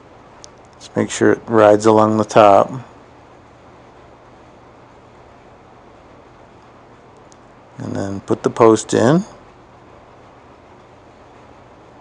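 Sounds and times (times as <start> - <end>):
faint low hum: 0.0 - 12.0
steady background hiss: 0.0 - 12.0.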